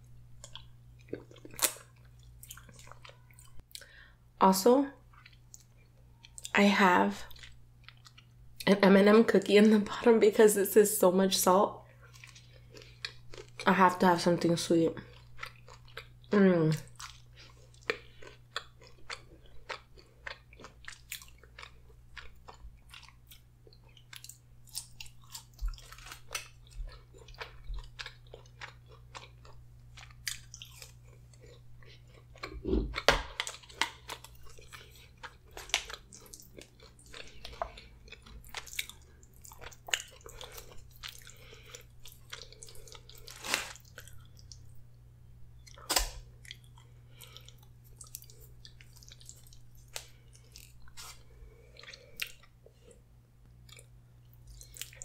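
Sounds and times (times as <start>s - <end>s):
cookie chewing crunches: 0.4s - 3.9s, 7.2s - 8.7s, 12.0s - 14.0s, 14.9s - 44.8s, 45.6s - 55.0s.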